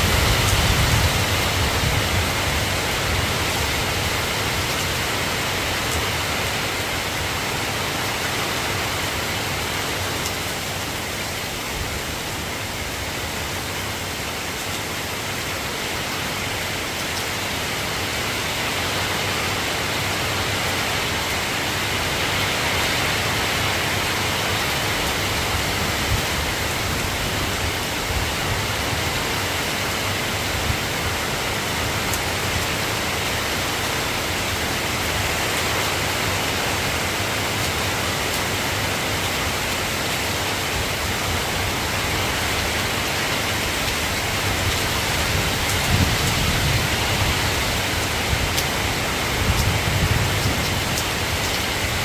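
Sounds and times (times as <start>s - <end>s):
steady rain hissing: 0.0s - 52.0s.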